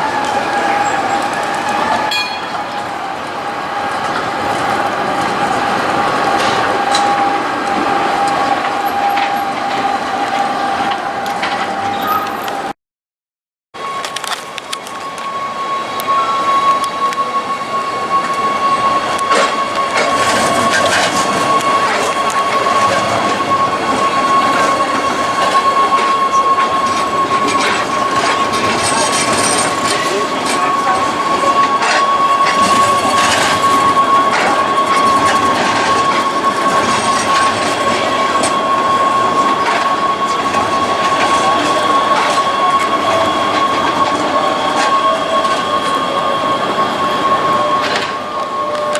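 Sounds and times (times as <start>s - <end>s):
wheels clicking over track: 0.0s - 12.7s, 19.1s - 48.9s
tram whining on rails: 0.0s - 12.8s, 13.8s - 48.9s.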